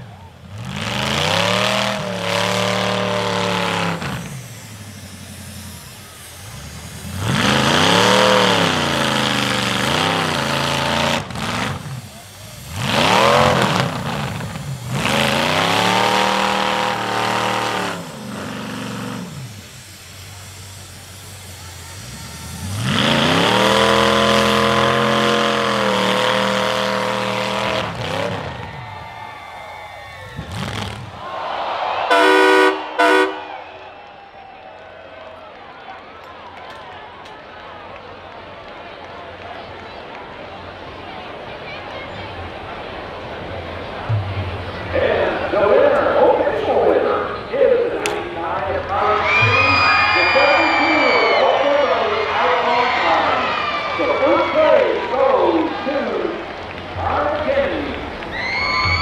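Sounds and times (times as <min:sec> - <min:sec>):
car engines revving: 0:00.0 - 0:33.8, 0:36.2 - 0:59.0.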